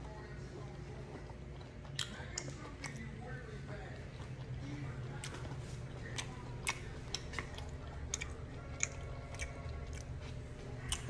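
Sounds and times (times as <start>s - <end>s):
low steady hum: 0.0s - 11.0s
quiet chewing: 0.0s - 11.0s.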